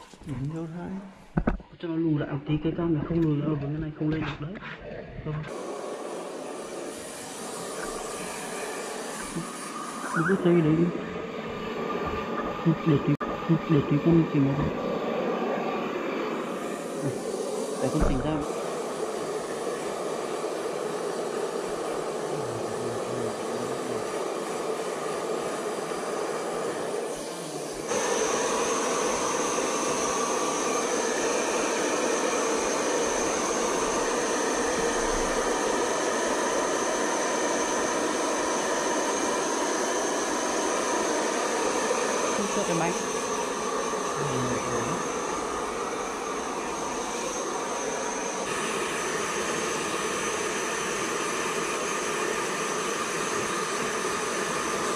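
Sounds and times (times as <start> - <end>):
hair dryer blowing with whine: 5.5 - 54.9.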